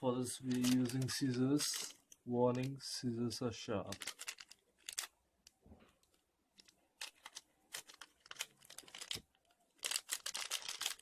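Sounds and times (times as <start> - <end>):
plastic crinkling: 0.5 - 2.8, 3.8 - 11.0.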